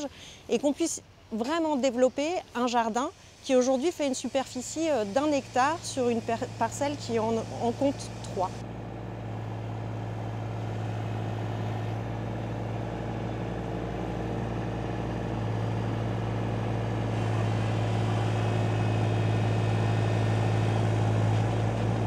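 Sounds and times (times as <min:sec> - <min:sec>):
low machine hum with tones: 0:00.0 - 0:22.0.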